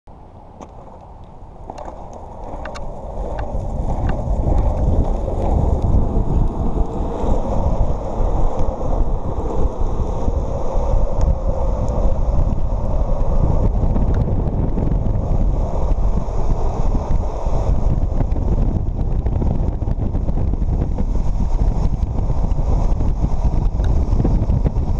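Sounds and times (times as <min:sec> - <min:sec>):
longboard wheels rolling on asphalt: 0:00.1 - 0:24.9
wind buffeting microphone: 0:00.4 - 0:24.9.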